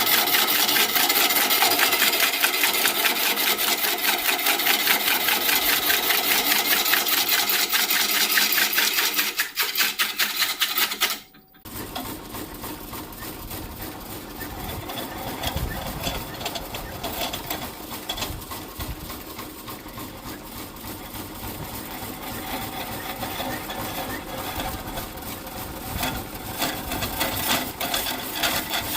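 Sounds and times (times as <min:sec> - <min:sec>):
power tool cutting wood: 0:00.0 - 0:28.9.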